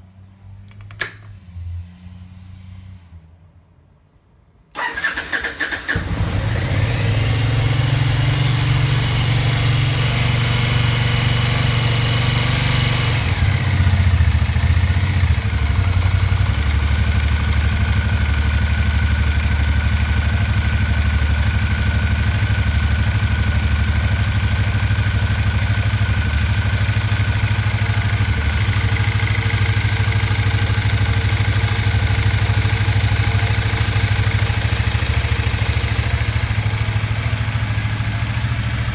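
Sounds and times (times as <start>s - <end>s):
motorcycle engine idling: 4.8s - 38.9s.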